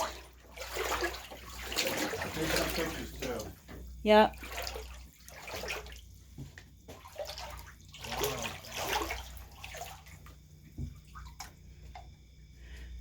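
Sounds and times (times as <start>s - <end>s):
floodwater splashing and sloshing: 0.0s - 12.2s.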